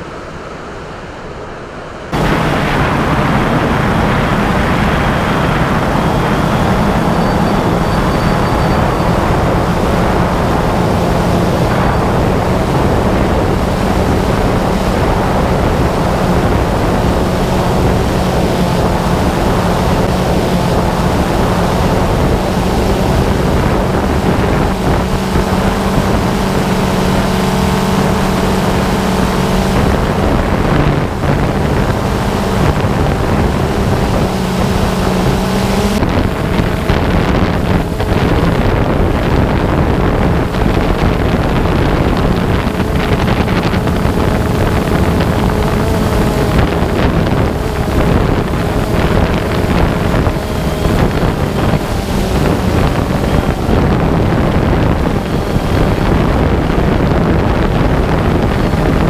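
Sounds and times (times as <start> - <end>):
drone motors humming: 0.0 - 59.0
wind rushing over microphone: 0.0 - 59.0.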